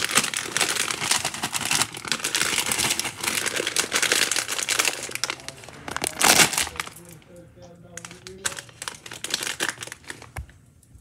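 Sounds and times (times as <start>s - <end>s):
foil chip bag crinkling: 0.0s - 10.7s.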